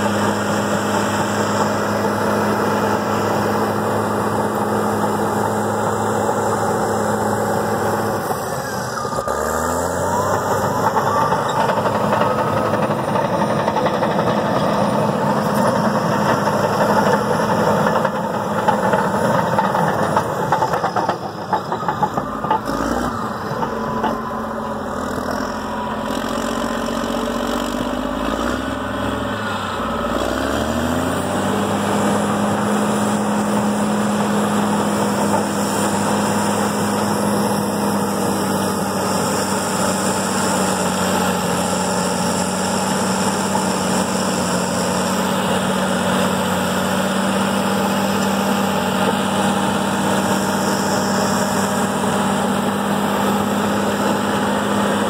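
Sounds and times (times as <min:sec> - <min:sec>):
dozer diesel engine under load: 0:00.0 - 0:55.0.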